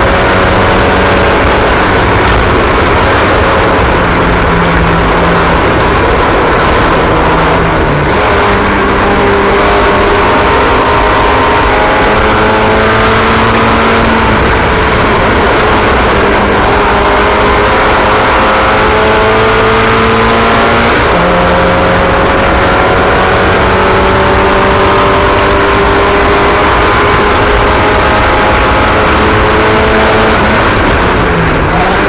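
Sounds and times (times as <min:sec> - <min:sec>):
racing engines accelerating: 0:00.0 - 0:32.0.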